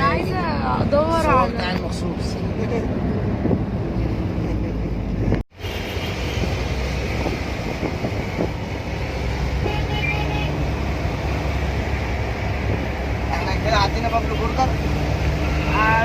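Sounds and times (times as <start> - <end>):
road noise and engine rumble: 0.0 - 16.0.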